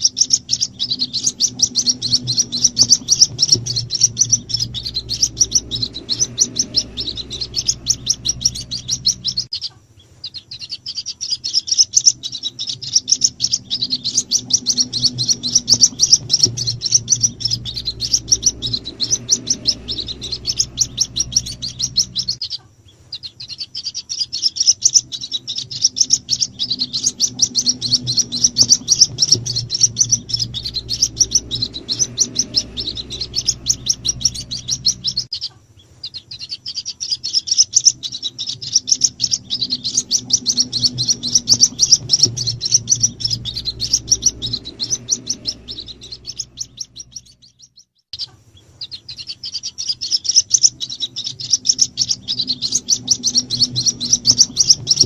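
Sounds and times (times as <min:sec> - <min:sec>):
bird chicks cheeping: 0:00.0 - 0:55.0.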